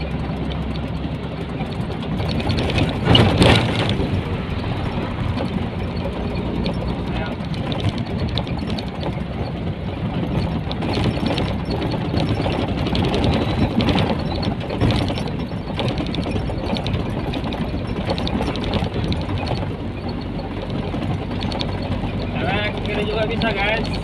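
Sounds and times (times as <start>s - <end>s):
diesel truck engine hum: 0.0s - 24.0s
truck body rattling: 0.0s - 24.0s.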